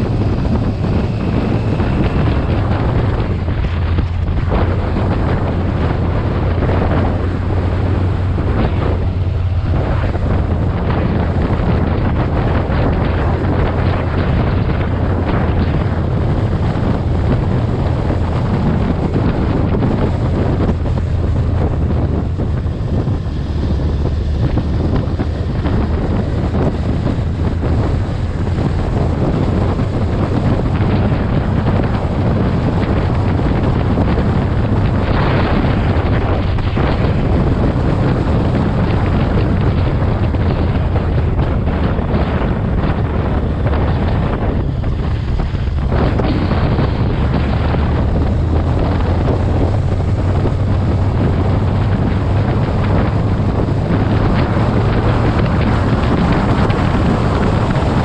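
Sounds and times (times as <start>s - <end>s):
motorcycle engine drone: 0.0s - 58.0s
road noise: 0.0s - 58.0s
wind buffeting microphone: 0.0s - 58.0s.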